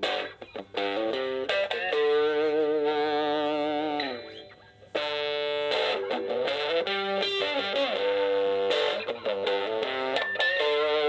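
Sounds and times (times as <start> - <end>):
electric guitar melody: 0.0 - 11.0.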